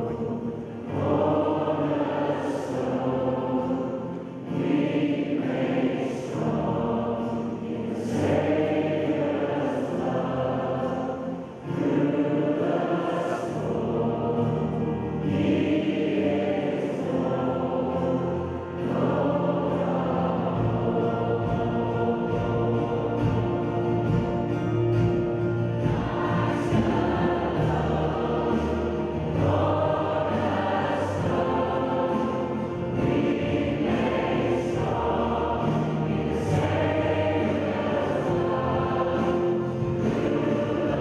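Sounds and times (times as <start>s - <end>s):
congregation and choir singing hymn: 0.0s - 41.0s.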